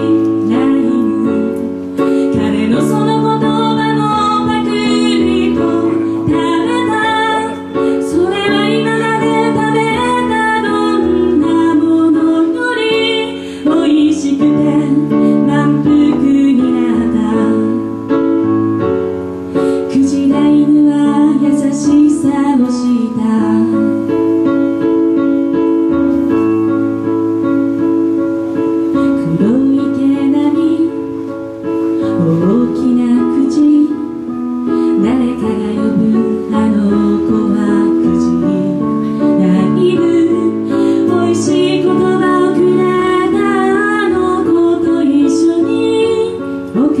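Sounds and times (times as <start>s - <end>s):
woman singing: 0.0s - 25.3s, 28.8s - 47.0s
electronic keyboard piano: 0.0s - 47.0s.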